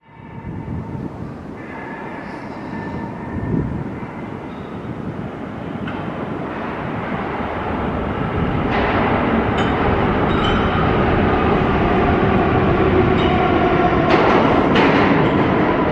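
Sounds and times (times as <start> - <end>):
subway train rumbling in tunnel: 0.0 - 15.9.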